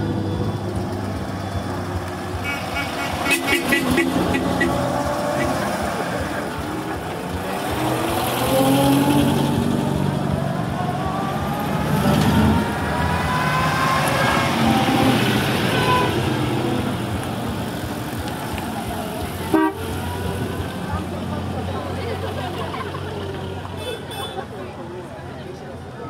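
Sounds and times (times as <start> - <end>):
car engines driving off: 0.0 - 26.0
crowd chatter: 0.0 - 26.0.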